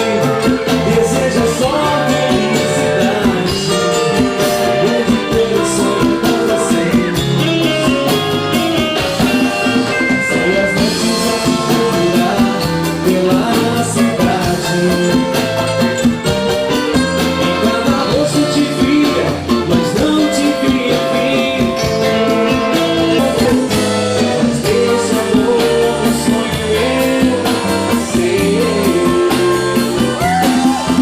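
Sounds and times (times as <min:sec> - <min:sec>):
drum kit beat: 0:00.0 - 0:31.0
electric guitar: 0:00.0 - 0:31.0
live dance band playing: 0:00.0 - 0:31.0.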